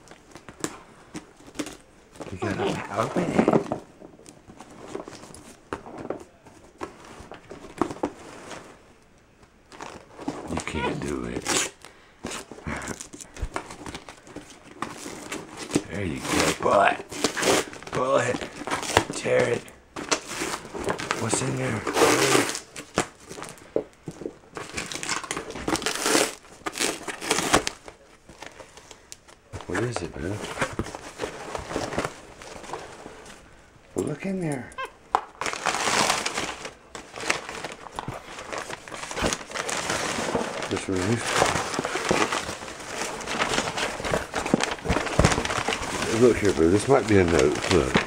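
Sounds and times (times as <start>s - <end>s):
plastic wrap crinkling: 0.0s - 8.8s, 9.6s - 48.0s
newspaper crumpling: 1.4s - 8.8s, 9.7s - 23.7s, 24.5s - 33.5s, 35.1s - 48.0s.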